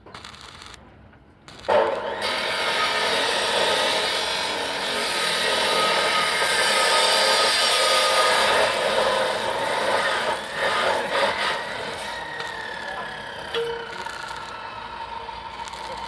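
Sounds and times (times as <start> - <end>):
arc welding crackling and hissing: 0.0 - 0.8, 1.4 - 16.0.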